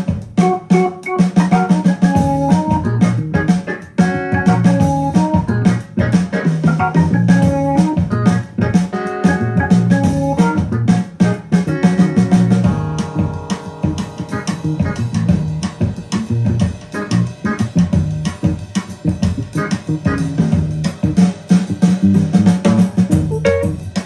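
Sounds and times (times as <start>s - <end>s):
guitar and bass music with beat: 0.0s - 24.0s.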